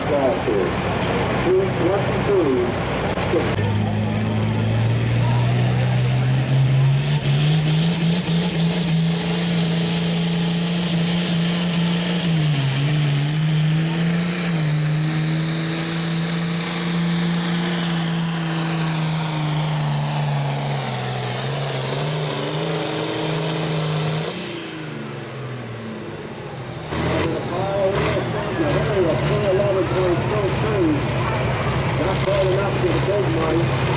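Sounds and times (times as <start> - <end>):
diesel tractor engine at high revs: 0.0 - 33.9.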